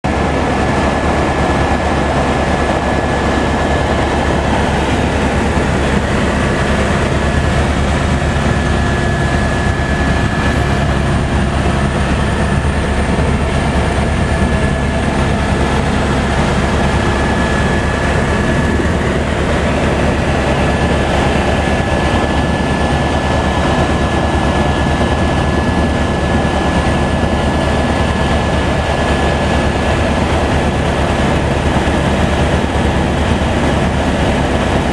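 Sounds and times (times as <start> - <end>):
helicopter rotor and turbine drone: 0.0 - 34.9.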